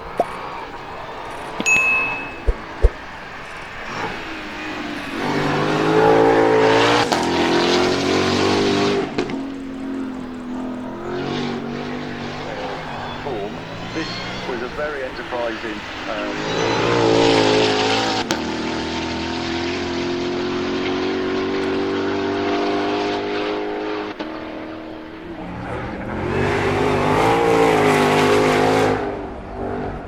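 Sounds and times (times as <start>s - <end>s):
car engine revving hard: 0.0s - 30.0s.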